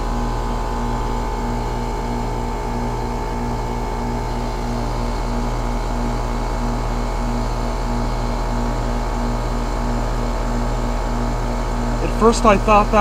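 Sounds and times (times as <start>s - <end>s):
condenser fan running: 0.0s - 13.0s
pulsing compressor hum: 0.0s - 13.0s.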